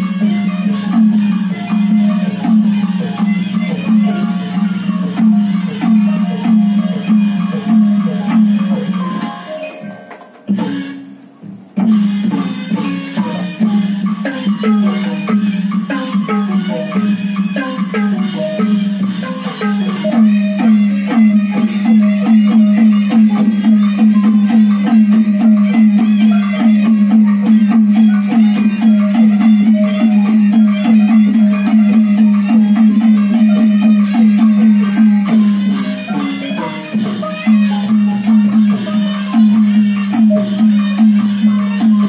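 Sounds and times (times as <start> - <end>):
mallet-struck percussion melody: 0.0 - 42.0.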